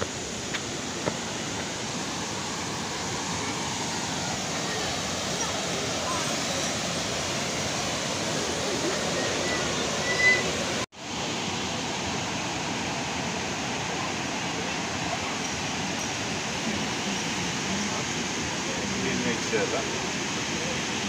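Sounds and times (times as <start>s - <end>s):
waterfall rushing into pool: 0.0s - 21.0s.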